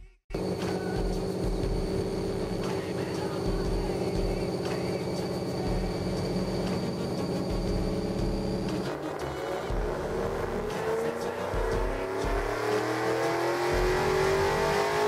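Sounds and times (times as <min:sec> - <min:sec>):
car engine running steadily: 0:00.3 - 0:15.0.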